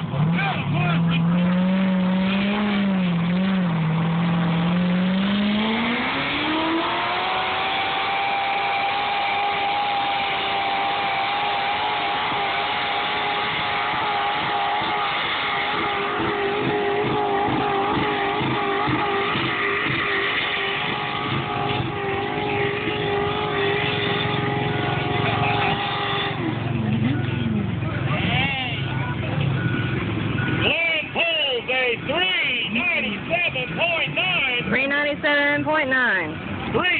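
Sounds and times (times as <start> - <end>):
tractor engine at full throttle: 0.0 - 36.9.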